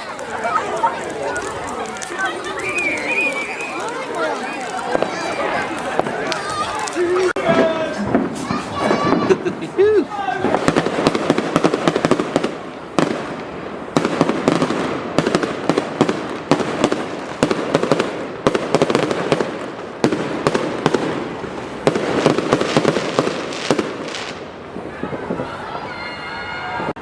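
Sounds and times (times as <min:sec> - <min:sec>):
fireworks cracking and banging: 0:00.0 - 0:26.2.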